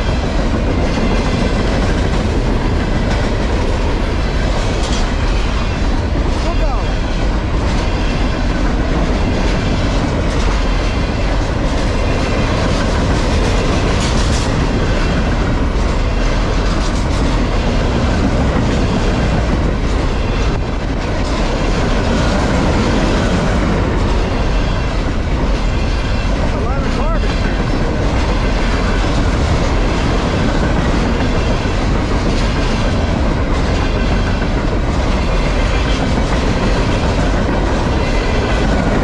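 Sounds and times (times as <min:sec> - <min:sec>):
steel wheels rumbling on rail: 0:00.0 - 0:39.0
wheels clicking over rail joints: 0:00.0 - 0:39.0.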